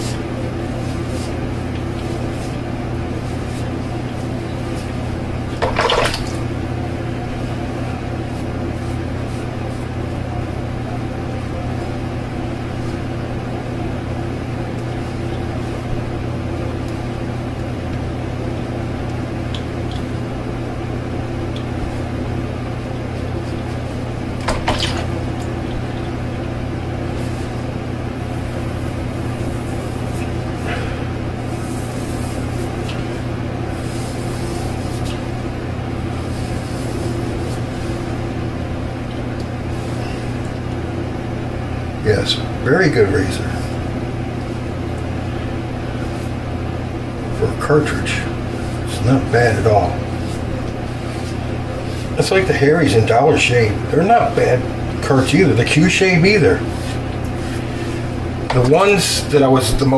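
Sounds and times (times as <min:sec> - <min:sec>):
background hum: 0:00.0 - 0:59.9.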